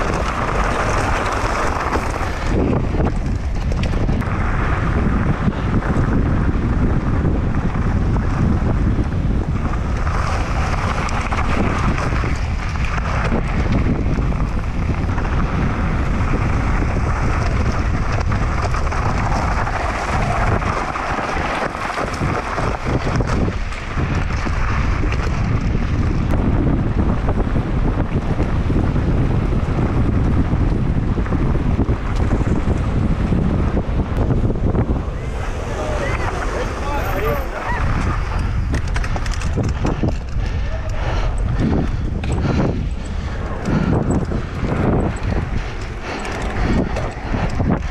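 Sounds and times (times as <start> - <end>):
bike tyres on gravel: 0.0 - 47.9
wind buffeting microphone: 0.0 - 47.9.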